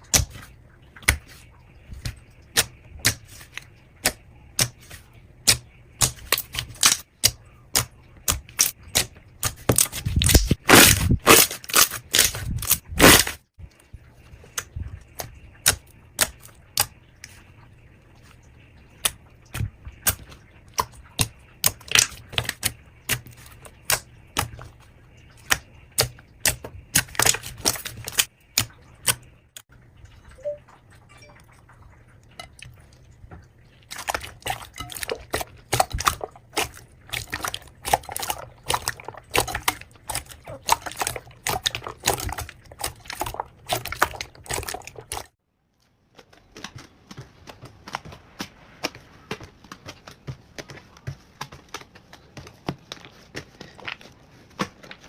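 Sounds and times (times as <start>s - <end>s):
slime squishing: 0.0s - 29.6s, 32.0s - 55.0s.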